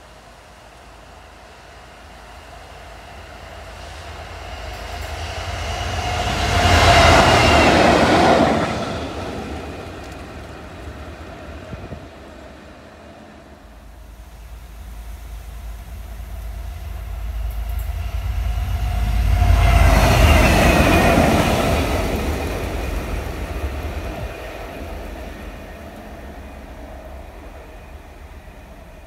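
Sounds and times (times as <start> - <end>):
electric locomotive passing: 0.0 - 29.0
wheel and rail rumble: 0.0 - 29.0.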